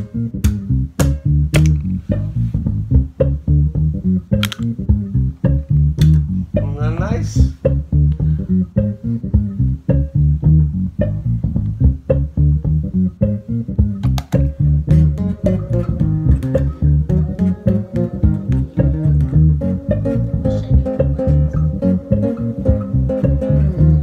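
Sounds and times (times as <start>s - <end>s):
electric bass guitar plucked notes: 0.0s - 24.0s.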